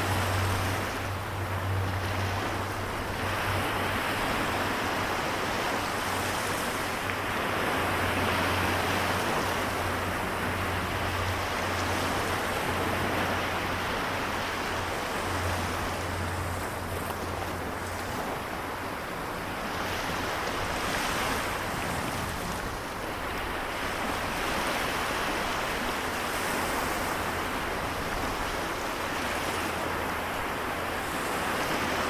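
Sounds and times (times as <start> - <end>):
small waves lapping on shore: 0.0 - 32.0.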